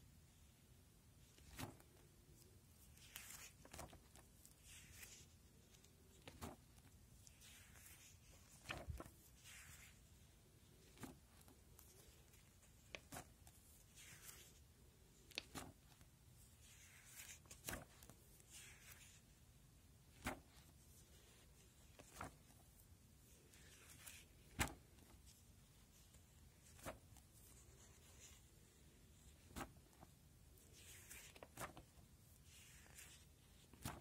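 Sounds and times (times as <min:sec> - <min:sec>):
plastic pages rustling: 0:01.2 - 0:19.3, 0:20.1 - 0:34.0.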